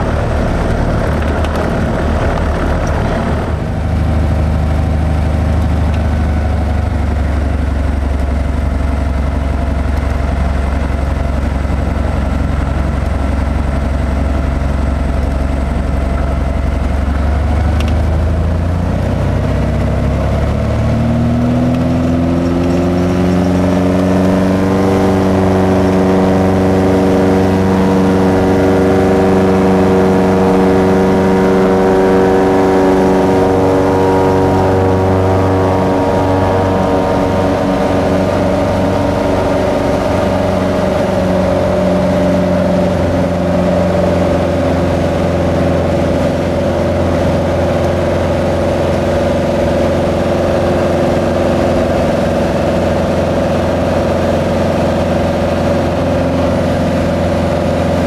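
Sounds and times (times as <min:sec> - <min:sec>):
propeller engine drone in cabin: 0:00.0 - 0:58.0.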